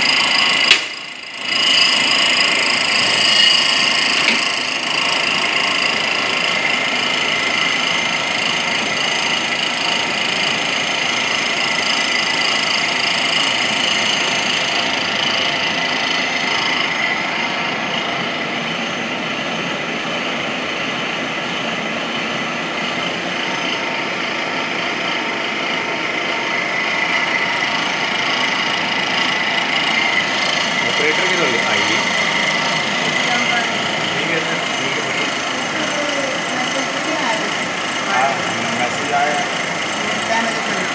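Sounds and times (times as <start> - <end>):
grinding machine whining: 0.0 - 40.9.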